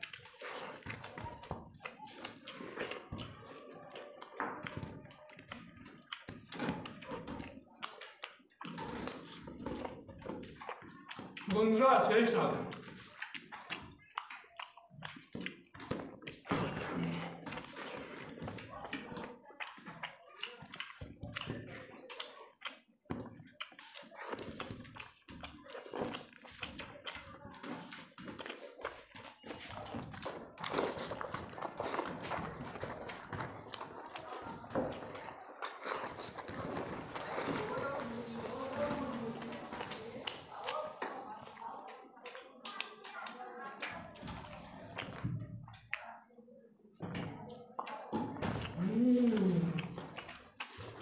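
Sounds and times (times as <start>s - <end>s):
chewing and lip smacking: 0.0s - 46.2s, 47.7s - 51.0s
hands squelching food on plates: 0.0s - 46.3s, 47.3s - 51.0s.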